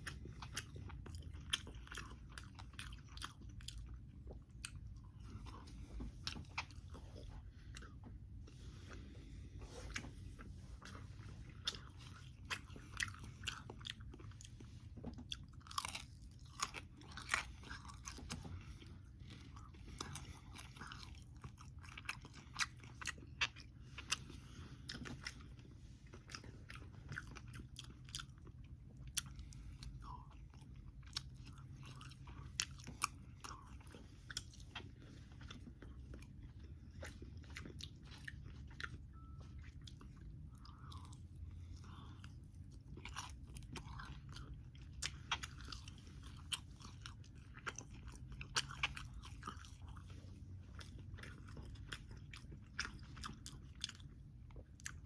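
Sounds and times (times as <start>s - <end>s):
chewing crunchy bacon: 0.0s - 55.0s.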